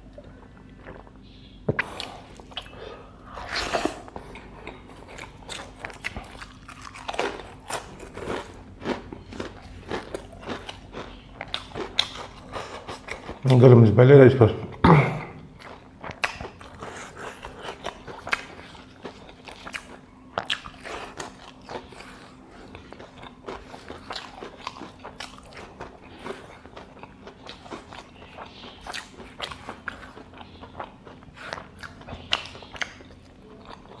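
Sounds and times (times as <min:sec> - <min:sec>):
person chewing crunchy food: 0:00.0 - 0:13.6, 0:15.4 - 0:34.0.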